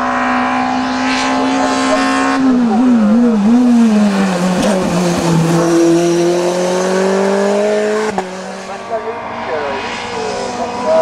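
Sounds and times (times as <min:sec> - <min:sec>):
race car engine: 0:00.0 - 0:11.0.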